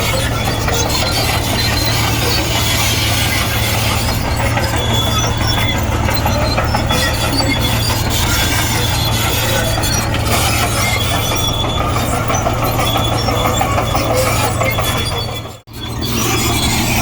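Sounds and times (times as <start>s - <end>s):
bulldozer diesel engine: 0.0s - 17.0s
steel tracks squeaking and clattering: 0.0s - 17.0s.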